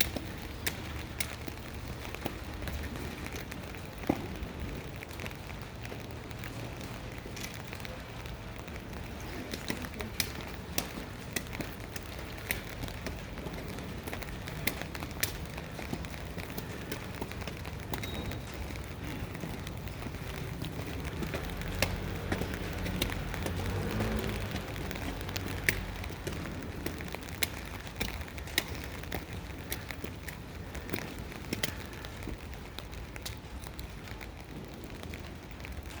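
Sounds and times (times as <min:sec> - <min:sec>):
rain falling: 0:00.0 - 0:36.0
raindrops ticking: 0:00.0 - 0:36.0.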